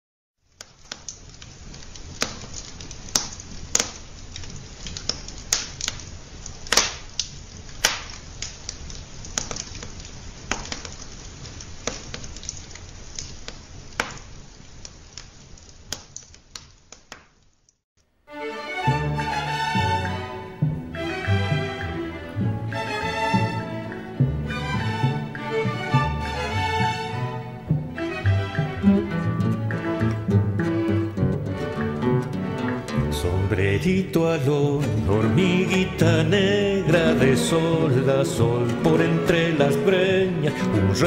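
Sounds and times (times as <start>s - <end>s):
wood fire crackling: 0.4s - 18.2s, 19.0s - 41.0s.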